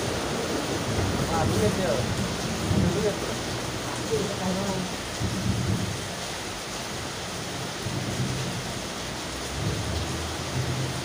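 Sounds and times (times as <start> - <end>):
heavy rain on wet street: 0.0 - 11.0.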